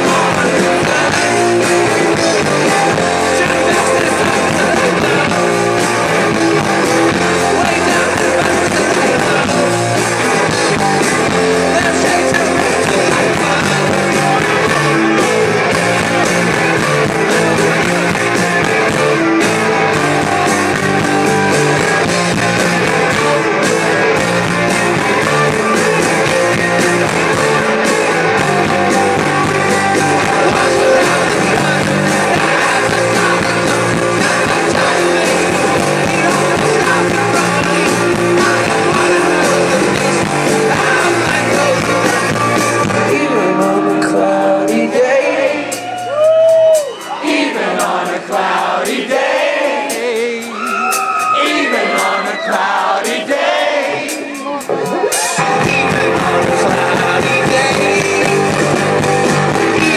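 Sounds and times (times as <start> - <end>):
drums: 0.0 - 59.9
electric guitars: 0.0 - 59.9
lead vocals: 0.0 - 59.9
rock band playing live: 0.0 - 59.9.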